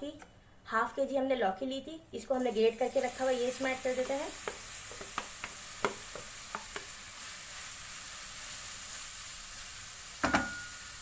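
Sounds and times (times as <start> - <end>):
gourd sizzling in pan: 2.2 - 11.0.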